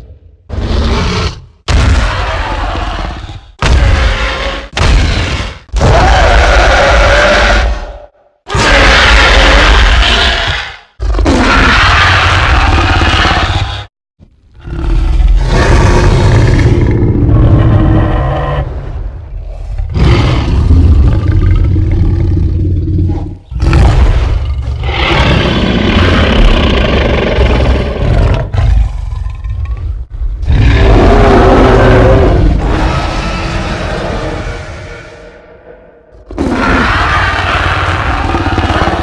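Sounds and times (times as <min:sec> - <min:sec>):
dinosaur roars: 0:00.0 - 0:13.9, 0:14.6 - 0:39.0.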